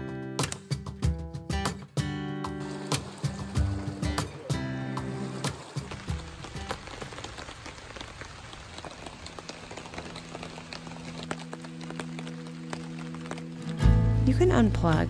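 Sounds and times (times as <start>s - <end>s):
soft background music: 0.0s - 7.1s, 9.8s - 15.0s
rain pattering on a tarp: 2.4s - 15.0s.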